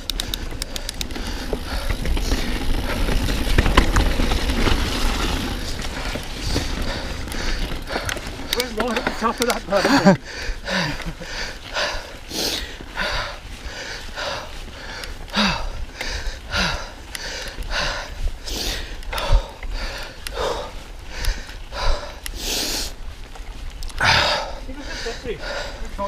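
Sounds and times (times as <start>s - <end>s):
heavy rhythmic breathing: 0.0s - 26.0s.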